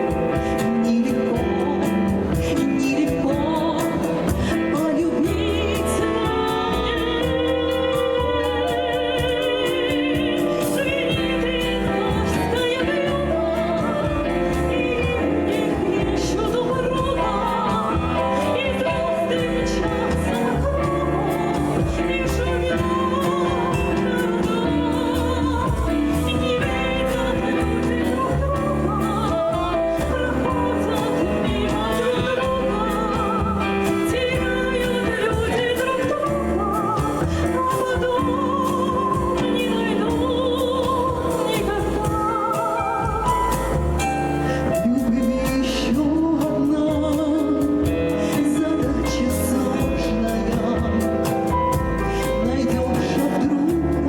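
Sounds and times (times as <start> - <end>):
instrumental accompaniment: 0.0 - 54.0
person singing ballad: 0.0 - 54.0.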